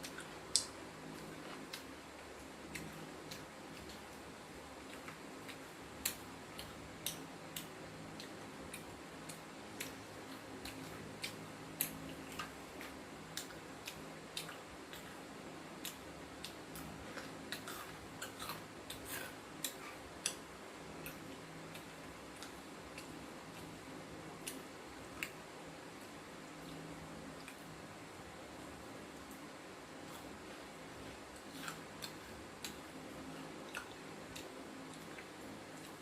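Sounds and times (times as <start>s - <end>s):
crunchy fried fish being chewed: 0.0s - 23.8s, 30.0s - 36.0s
faint steady hum: 0.0s - 36.0s.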